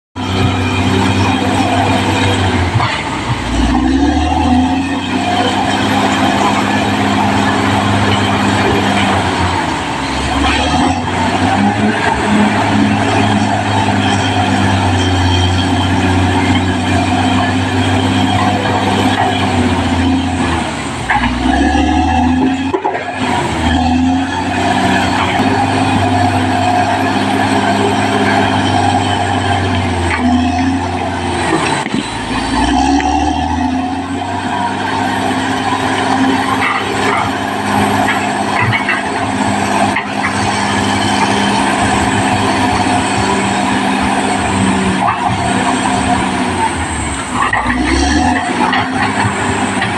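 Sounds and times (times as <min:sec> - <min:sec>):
bulldozer diesel engine running: 0:00.1 - 0:49.9.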